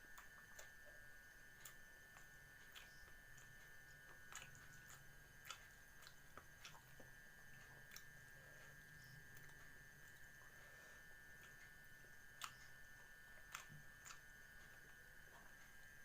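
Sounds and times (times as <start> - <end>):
person chewing and crunching: 0.1 - 16.0.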